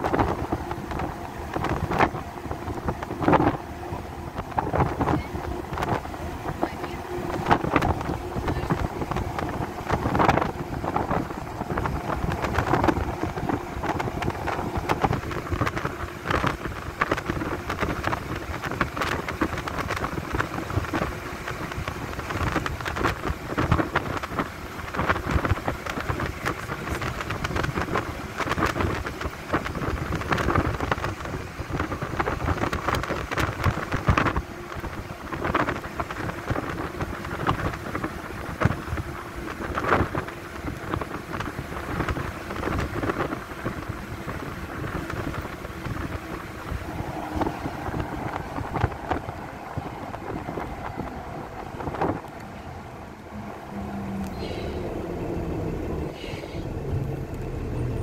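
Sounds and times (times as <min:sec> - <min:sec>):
vehicle road noise: 0:00.0 - 0:58.0
wind buffeting microphone: 0:00.0 - 0:58.0.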